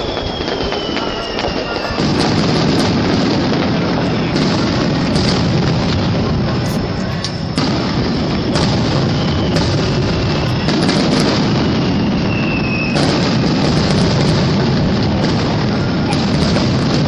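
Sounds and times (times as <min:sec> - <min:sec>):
fireworks booming and crackling: 0:00.0 - 0:17.0.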